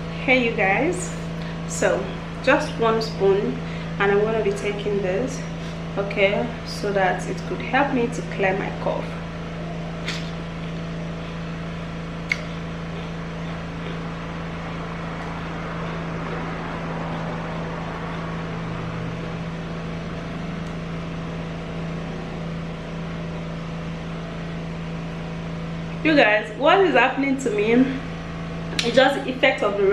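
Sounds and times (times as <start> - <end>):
low appliance hum: 0.0 - 29.9.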